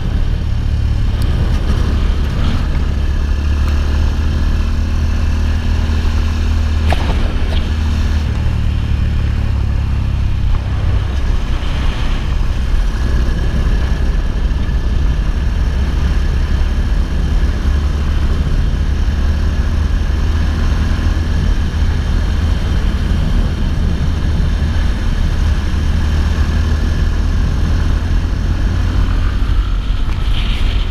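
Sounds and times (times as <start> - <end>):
motorcycle engine running: 0.0 - 30.8
constant low rumble: 0.0 - 30.9.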